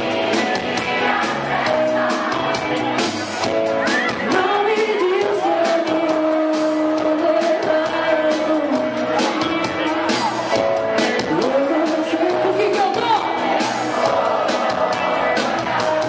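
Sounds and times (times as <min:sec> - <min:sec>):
drums and cymbals: 0:00.0 - 0:16.0
keyboards: 0:00.0 - 0:16.0
person singing: 0:00.0 - 0:16.0.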